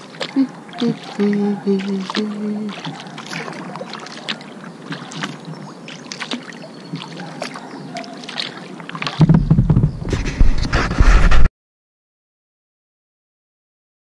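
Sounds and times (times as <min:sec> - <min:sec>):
paddle splashing water: 0:00.0 - 0:11.4.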